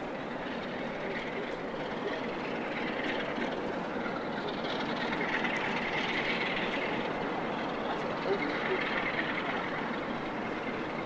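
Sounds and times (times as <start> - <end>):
diesel locomotive engines droning: 0.0 - 11.0.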